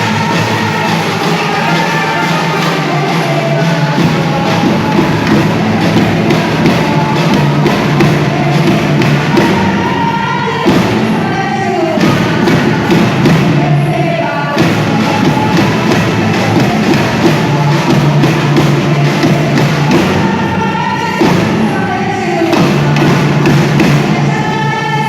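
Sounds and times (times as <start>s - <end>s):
drums beating steady rhythm: 0.0s - 25.0s.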